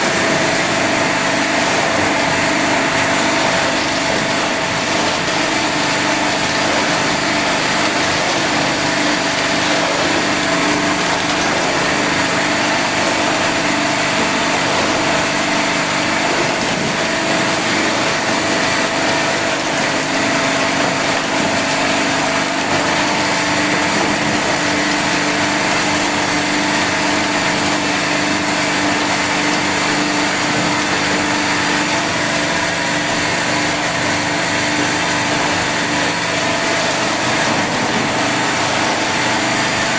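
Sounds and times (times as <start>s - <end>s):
ice machine humming and whirring: 0.0s - 39.9s.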